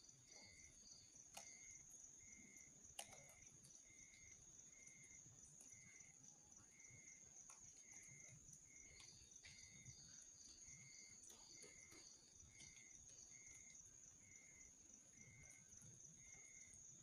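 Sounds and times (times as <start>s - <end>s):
insect low pulsing chirp: 0.0s - 17.0s
campfire crackles: 1.2s - 17.0s.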